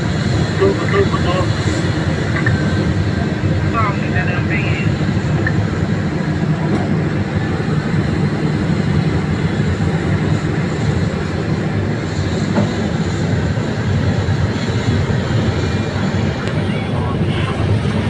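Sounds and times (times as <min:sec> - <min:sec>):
heavy diesel engine rumbling: 0:00.0 - 0:18.0.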